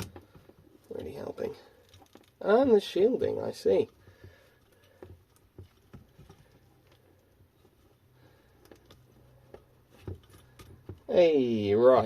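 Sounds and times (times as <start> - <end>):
faint clicks of small parts: 0.0 - 11.1.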